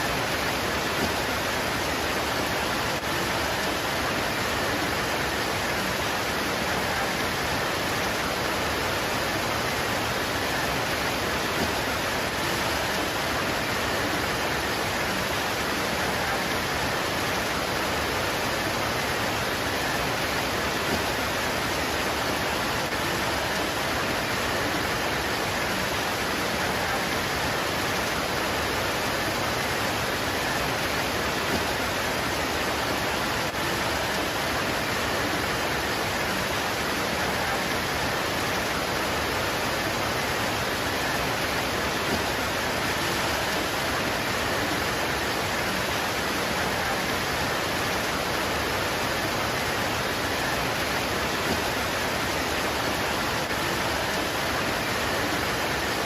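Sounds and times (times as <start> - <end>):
rain pouring on leaves: 0.0 - 56.0.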